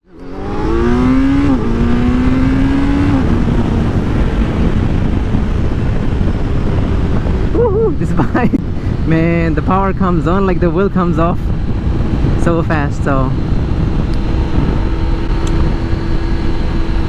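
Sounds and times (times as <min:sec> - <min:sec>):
motorcycle engine accelerating: 0:00.0 - 0:09.7, 0:11.4 - 0:17.0
steady rushing noise: 0:00.0 - 0:17.0.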